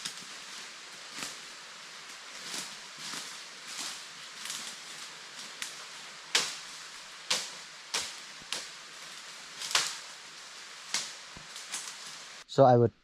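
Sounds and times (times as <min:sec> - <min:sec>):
steady high hiss: 0:00.0 - 0:12.9.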